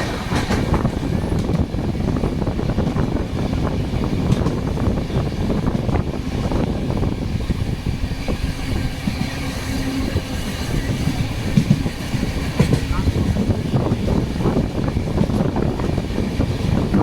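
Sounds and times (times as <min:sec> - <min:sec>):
train running on track: 0:00.0 - 0:17.0
wheels rattling and knocking: 0:00.0 - 0:17.0.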